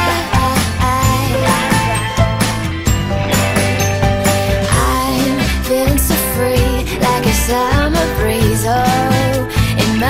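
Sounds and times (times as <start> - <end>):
pop song with steady beat: 0.0 - 10.0.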